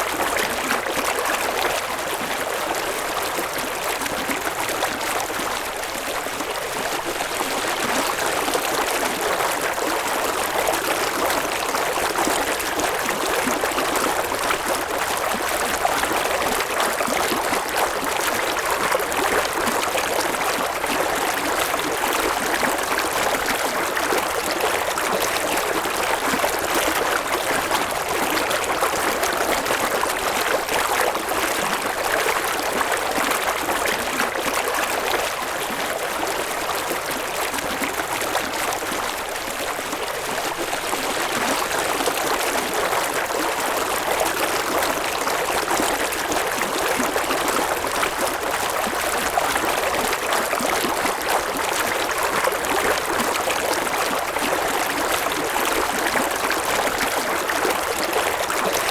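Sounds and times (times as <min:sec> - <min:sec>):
river water babbling: 0:00.0 - 0:58.9.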